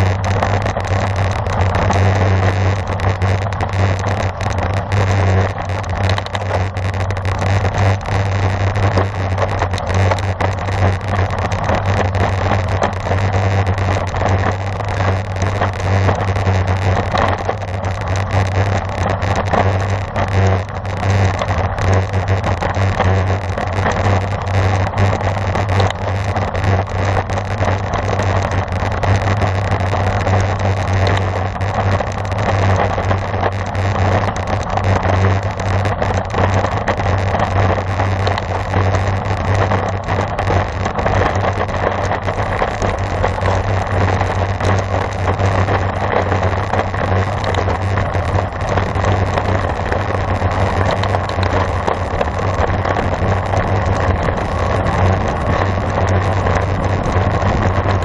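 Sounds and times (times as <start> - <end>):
wind and road noise from bicycle: 0.0 - 58.0.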